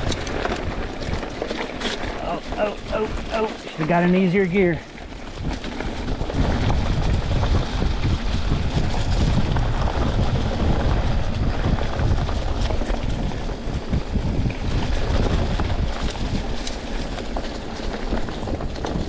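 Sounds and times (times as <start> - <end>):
tyres rolling on leafy dirt trail: 0.0 - 19.0
wind buffeting microphone: 0.0 - 19.0.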